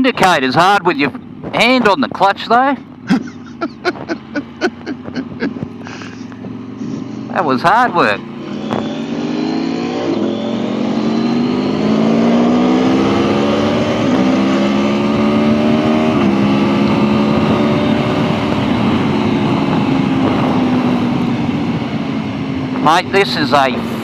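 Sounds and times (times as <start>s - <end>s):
motorcycle engine accelerating: 0.0s - 24.0s
heavy wind rush: 3.1s - 24.0s.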